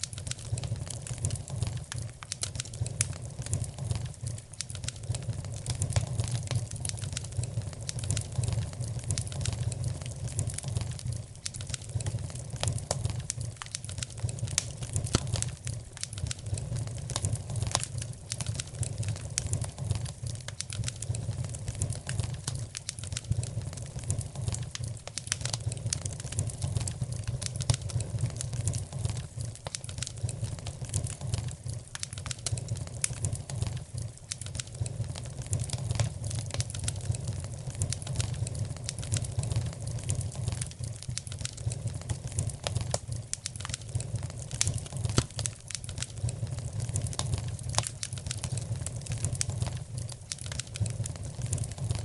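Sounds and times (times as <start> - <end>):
low rumble of fire: 0.0 - 52.0
wood fire crackling and popping: 0.0 - 52.0.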